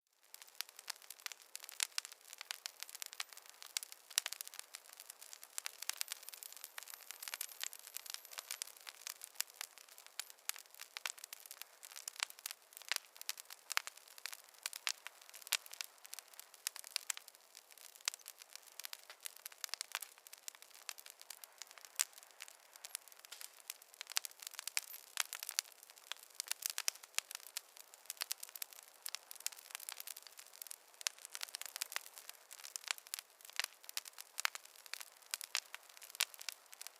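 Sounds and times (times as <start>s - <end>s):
campfire crackling and popping: 0.2s - 36.9s.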